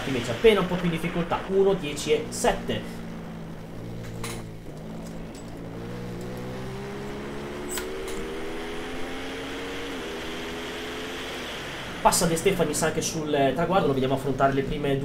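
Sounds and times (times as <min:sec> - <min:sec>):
motorbike engines revving: 0:00.0 - 0:15.0.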